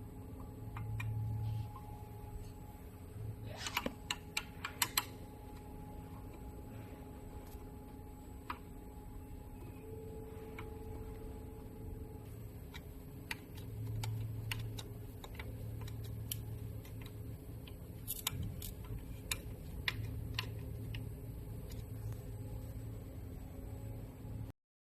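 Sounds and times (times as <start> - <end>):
low steady hum: 0.0 - 24.5.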